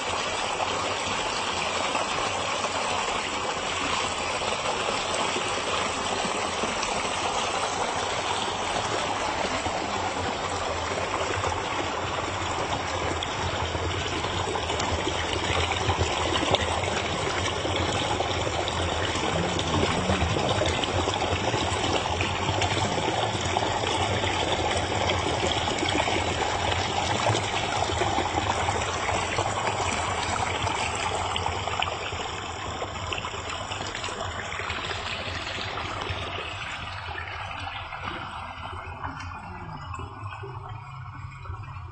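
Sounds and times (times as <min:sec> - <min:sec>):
stream flowing and trickling: 0:00.0 - 0:41.9.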